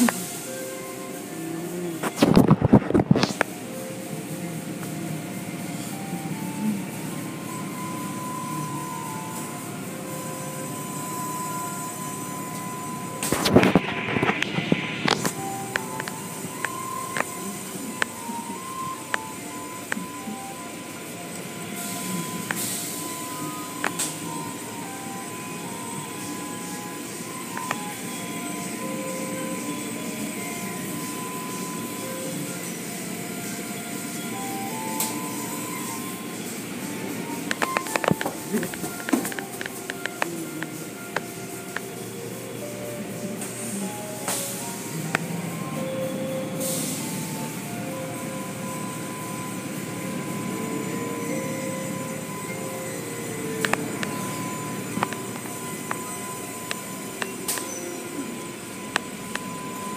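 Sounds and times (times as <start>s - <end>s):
car wash brushes whirring: 0.0s - 59.9s.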